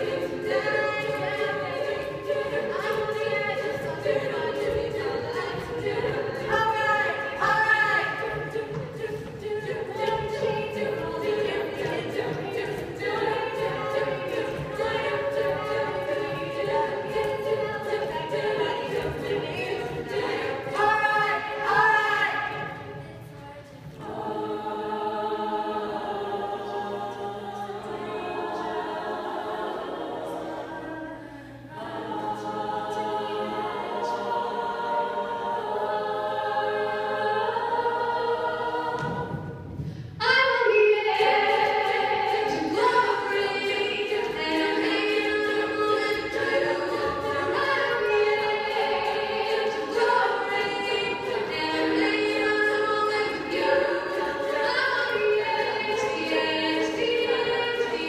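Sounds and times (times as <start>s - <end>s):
sustained backing vocals: 0.0s - 58.0s.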